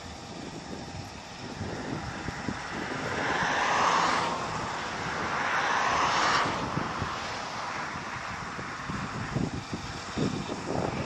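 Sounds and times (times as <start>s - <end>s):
combine harvester hissing drone: 0.0s - 11.0s.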